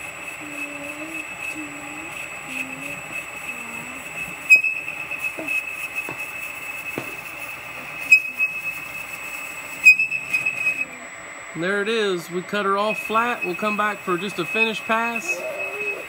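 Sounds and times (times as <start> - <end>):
metal cutting high squealing whine: 0.0 - 16.0.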